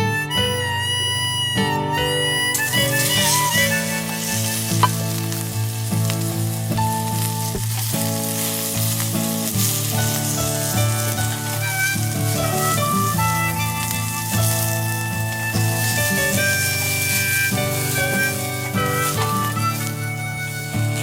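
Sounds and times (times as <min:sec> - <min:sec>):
meat sizzling over a fire: 0:02.3 - 0:21.0.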